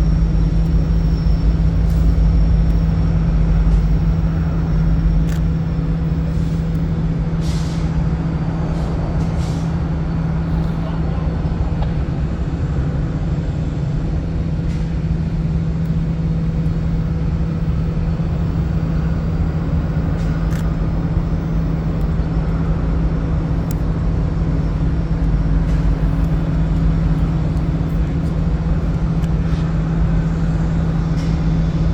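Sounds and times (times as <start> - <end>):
engine humming: 0.0 - 31.9.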